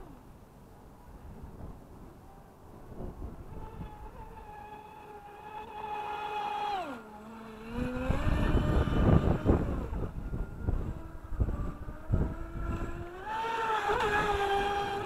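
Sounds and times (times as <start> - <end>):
electric motor whining: 2.9 - 15.0.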